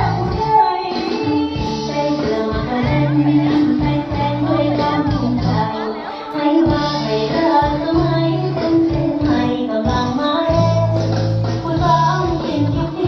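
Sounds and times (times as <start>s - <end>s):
held bass notes: 0.0s - 0.6s, 1.5s - 5.8s, 6.6s - 13.0s
person singing: 0.0s - 13.0s.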